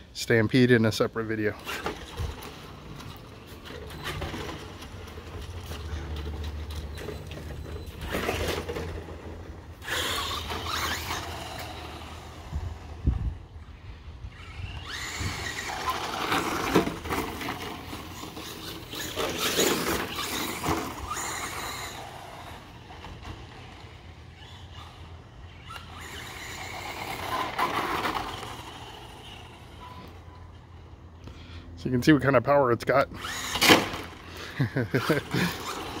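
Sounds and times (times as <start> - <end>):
toy car motor whining: 1.5 - 30.9, 33.1 - 36.0.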